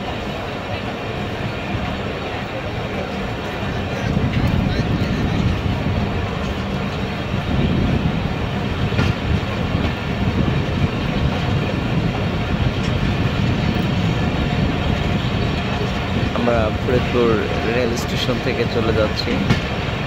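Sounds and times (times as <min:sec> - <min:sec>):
train rolling on rails: 0:00.0 - 0:20.0.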